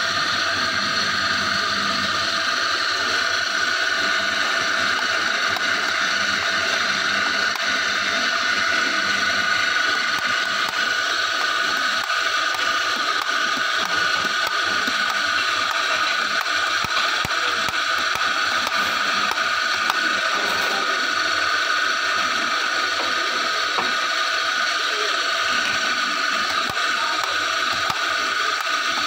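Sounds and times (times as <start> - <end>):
electric coffee grinder grinding: 0.0 - 29.0.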